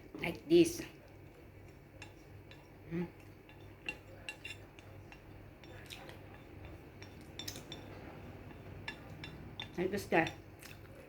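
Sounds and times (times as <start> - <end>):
faint low hum: 0.0 - 11.0
utensils clinking against a dish: 1.6 - 11.0.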